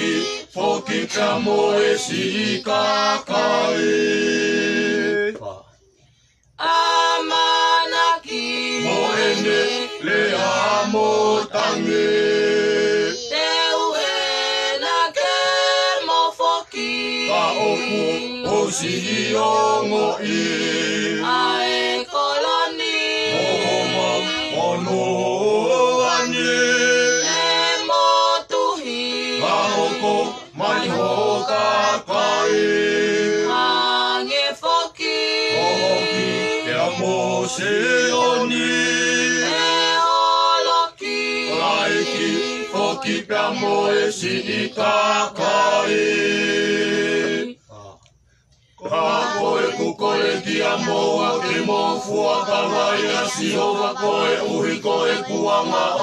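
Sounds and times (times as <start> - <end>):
group singing in harmony: 0.0 - 5.7, 6.5 - 48.0, 48.7 - 56.0.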